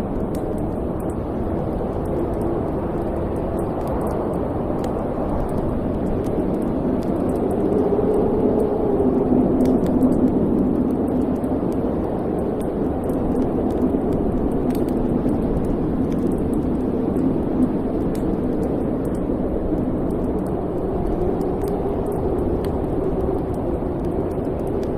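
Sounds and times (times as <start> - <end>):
fire crackling and popping: 0.0 - 24.9
fire roaring: 0.0 - 24.9.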